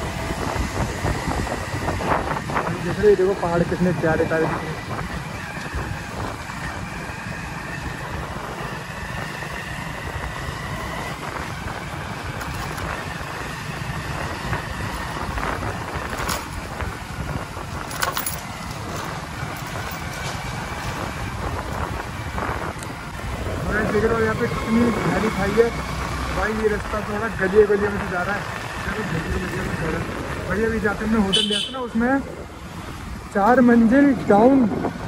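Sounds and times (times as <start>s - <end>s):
motorcycle engine and road rumble: 0.0s - 35.0s.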